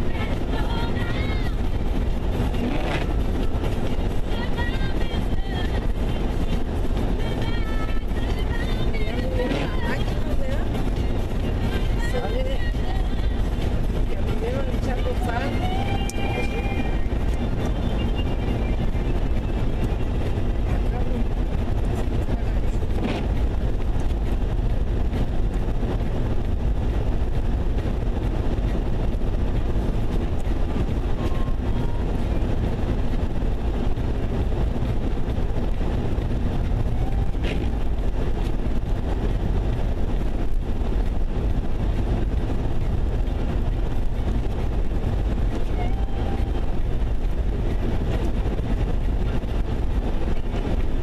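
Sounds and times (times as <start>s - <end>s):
vehicle engine and tyres rumbling: 0.0s - 51.0s.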